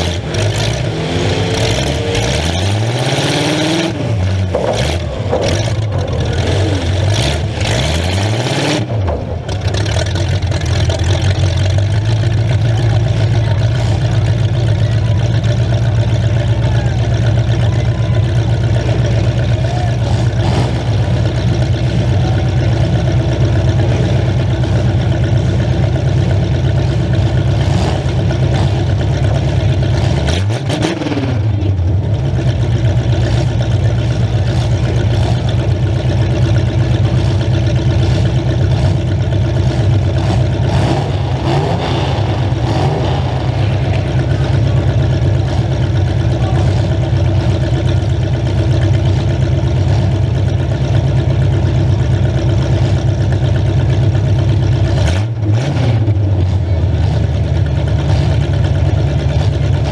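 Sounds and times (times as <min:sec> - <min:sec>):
car engine idling loudly: 0:00.0 - 0:59.9.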